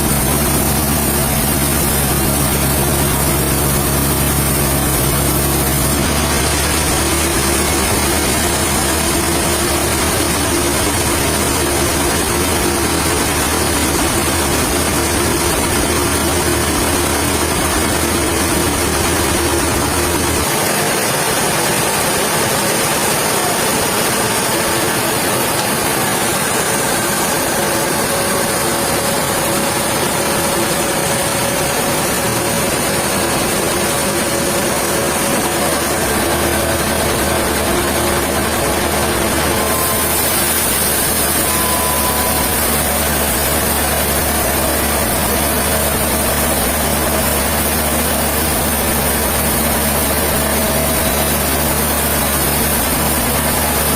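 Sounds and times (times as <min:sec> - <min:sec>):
sawmill machinery din: 0:00.0 - 0:53.9
steady hum: 0:00.0 - 0:53.9.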